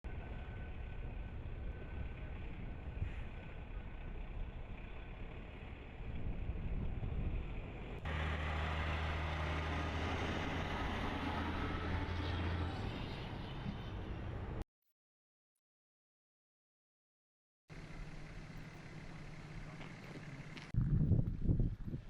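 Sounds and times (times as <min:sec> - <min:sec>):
road or wind noise: 0:00.0 - 0:14.6, 0:17.7 - 0:22.0
vehicle rumble: 0:00.0 - 0:14.6, 0:17.7 - 0:22.0.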